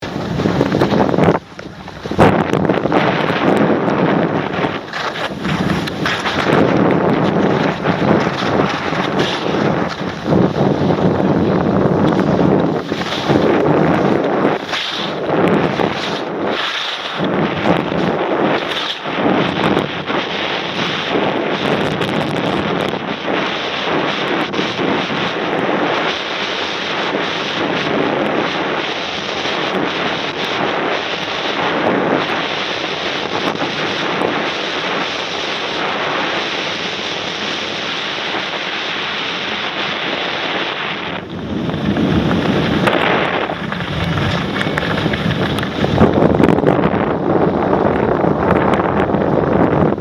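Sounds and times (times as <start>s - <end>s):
skis scraping over ice: 0.0s - 48.5s
wind rushing over microphone: 0.0s - 50.0s.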